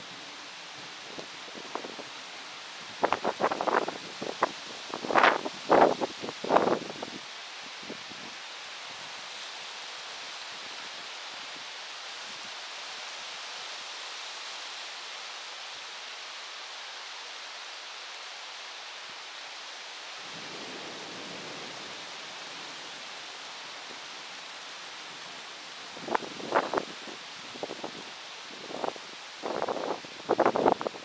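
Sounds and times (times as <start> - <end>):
heavy rain hissing: 0.0 - 31.0.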